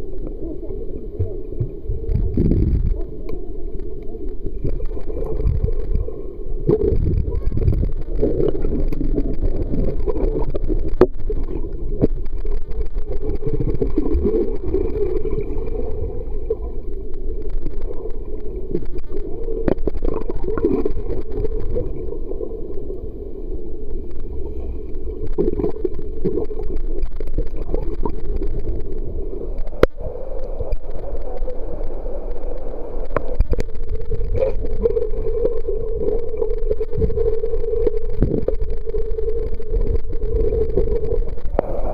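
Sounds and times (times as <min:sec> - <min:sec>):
underwater water gurgling: 0:00.0 - 0:41.9.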